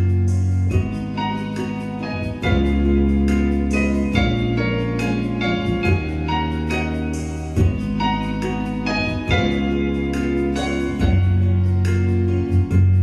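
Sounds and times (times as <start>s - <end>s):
keyboard chords: 0.0s - 13.0s
sustained bass: 0.0s - 13.0s.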